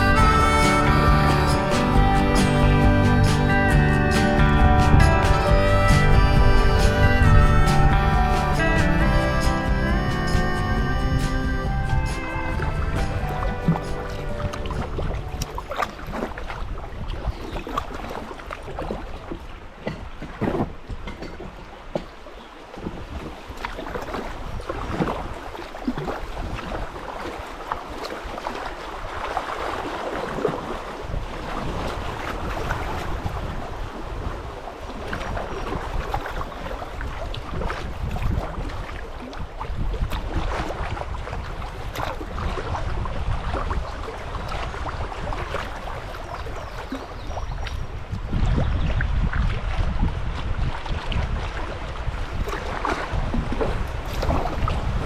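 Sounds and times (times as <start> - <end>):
wind on microphone: 0.0 - 22.0, 22.6 - 55.0
water splashing around a kayak: 0.0 - 55.0.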